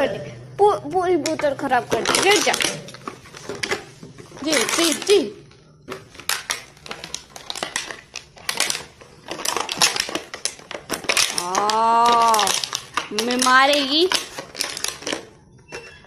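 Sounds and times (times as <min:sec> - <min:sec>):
dog chewing plastic bottle: 0:01.2 - 0:05.3, 0:05.9 - 0:16.0.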